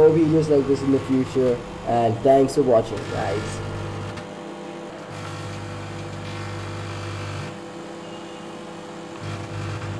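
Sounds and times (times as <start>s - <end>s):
microwave oven humming: 0.0s - 9.9s.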